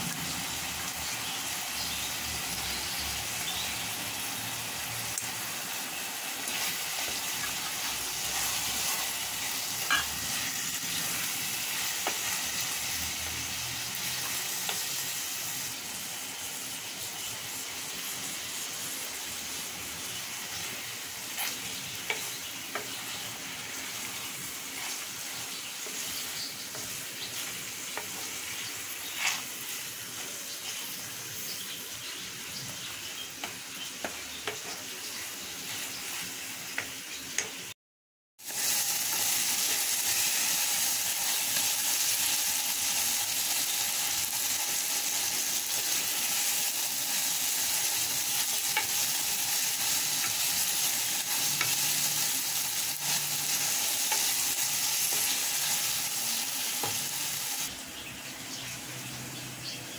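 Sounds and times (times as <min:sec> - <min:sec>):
vegetables sizzling in hot oil: 0:00.0 - 0:37.8, 0:38.4 - 0:59.8.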